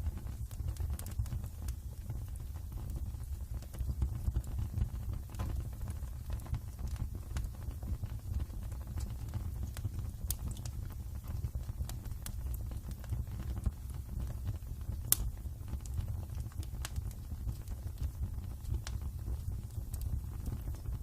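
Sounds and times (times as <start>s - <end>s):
wood fire crackling in fireplace: 0.0s - 21.0s.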